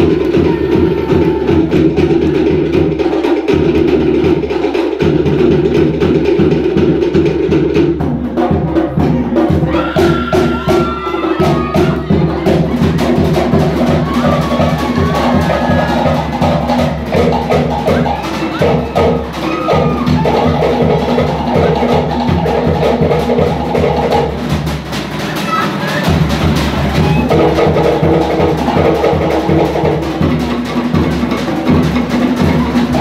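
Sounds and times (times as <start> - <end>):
deep bass-drum beats: 0.0 - 33.0.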